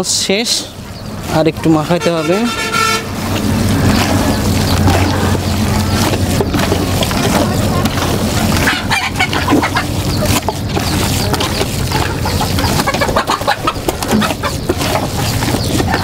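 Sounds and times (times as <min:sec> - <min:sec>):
chickens clucking: 0:00.0 - 0:16.0
wet mash squelching: 0:00.3 - 0:16.0.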